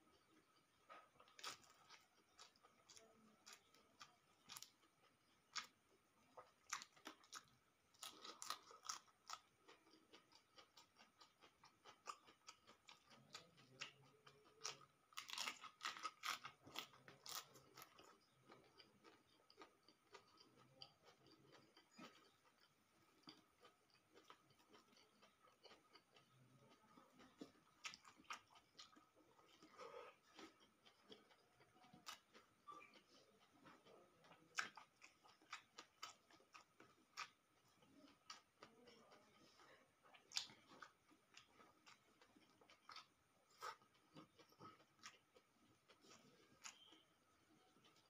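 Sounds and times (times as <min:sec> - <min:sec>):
close-up chewing food: 0:00.0 - 0:48.0.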